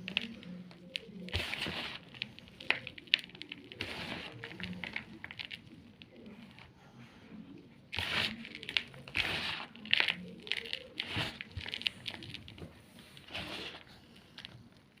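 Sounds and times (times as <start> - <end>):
chalk block crunching: 0.0 - 6.7, 7.9 - 15.0.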